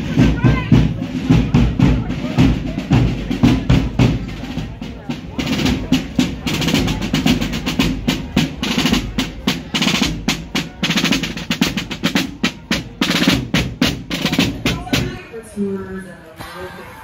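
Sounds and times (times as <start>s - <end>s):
drum hits: 0.0s - 15.2s
snare drum rolls: 0.0s - 15.2s.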